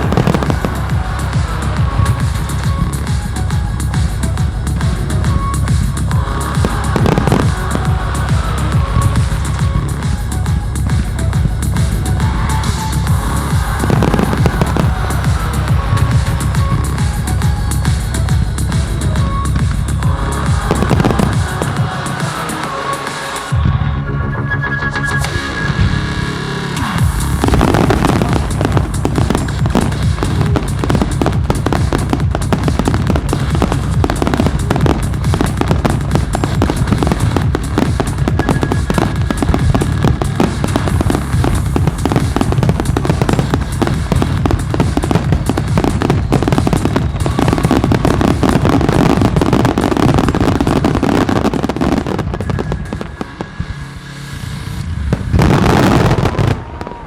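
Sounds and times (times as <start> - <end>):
fireworks bursting and crackling: 0.0 - 23.8, 25.2 - 57.0
heavy low rumble: 0.0 - 57.0
music: 0.0 - 57.0.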